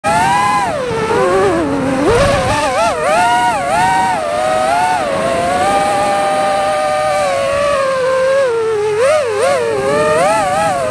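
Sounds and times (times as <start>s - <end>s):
drone propellers whining: 0.0s - 10.9s.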